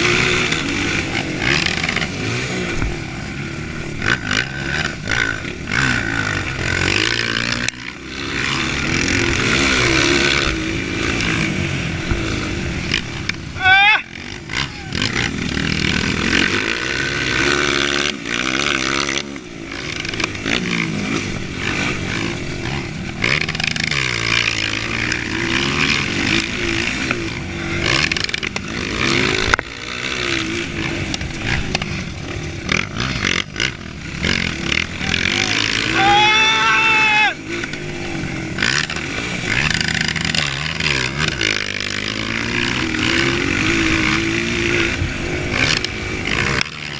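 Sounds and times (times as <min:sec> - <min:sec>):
dirt bike engine revving: 0:00.0 - 0:46.9
steady rushing noise: 0:00.0 - 0:46.9.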